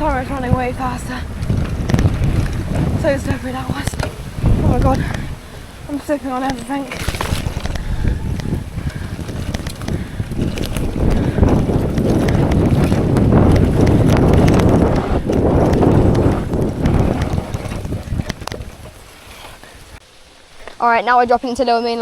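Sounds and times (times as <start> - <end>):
bike rattling and knocking: 0.0 - 19.9
tyres rumbling on trail: 0.0 - 22.0
wind buffeting microphone: 0.0 - 22.0.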